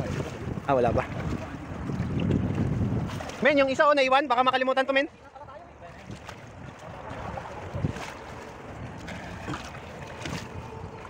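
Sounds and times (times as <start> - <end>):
feet wading through water: 0.0 - 11.0
water splashing: 0.0 - 11.0.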